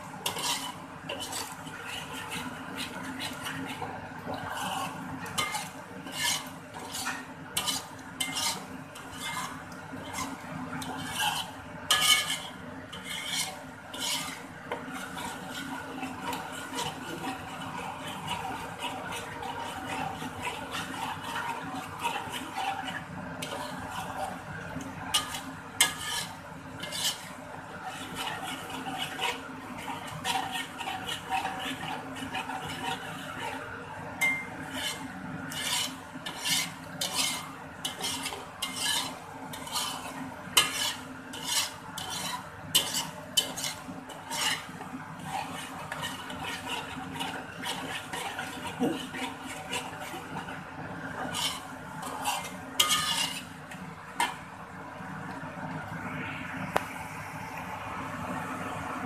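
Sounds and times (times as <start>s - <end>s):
spatula scraping in a wok: 0.0s - 55.4s.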